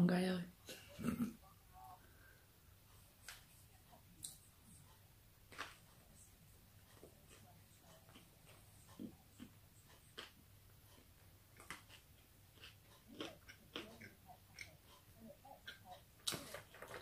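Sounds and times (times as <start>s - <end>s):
faint chewing with mouth clicks: 0.6s - 17.0s.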